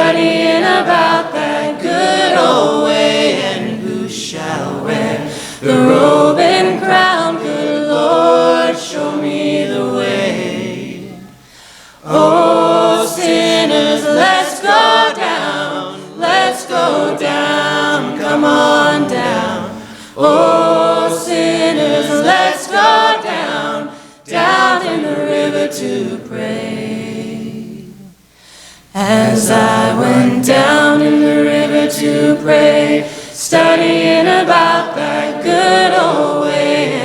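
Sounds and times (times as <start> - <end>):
group singing a cappella: 0.0 - 37.0.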